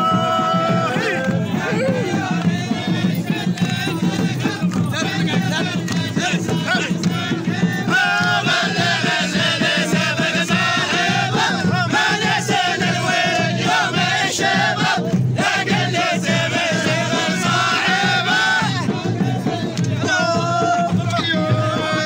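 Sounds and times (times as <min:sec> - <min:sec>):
men chanting in unison: 0:00.0 - 0:22.0
steady drum beat: 0:00.0 - 0:22.0.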